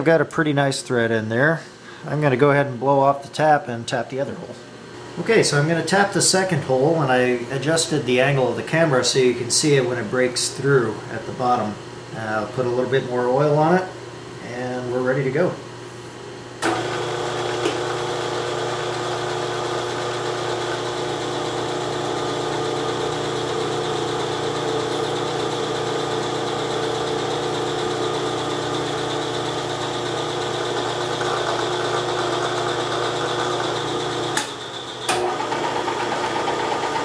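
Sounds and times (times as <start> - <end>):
milling machine hum with gear whine: 4.8 - 37.0.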